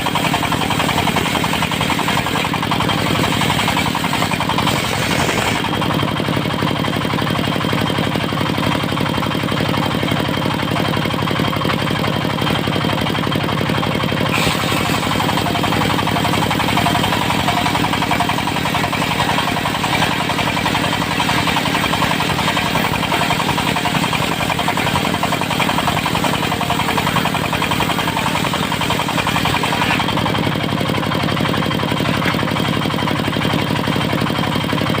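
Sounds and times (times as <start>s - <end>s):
diesel engine running steadily: 0.0s - 35.0s.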